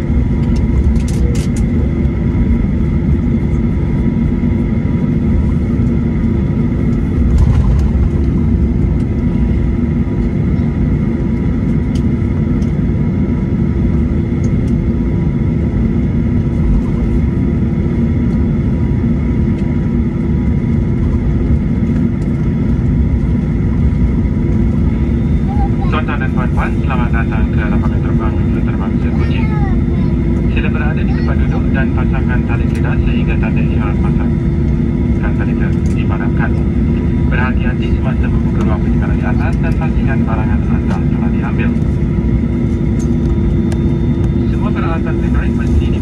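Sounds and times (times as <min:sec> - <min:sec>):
jet engines humming and rumbling: 0:00.0 - 0:46.0.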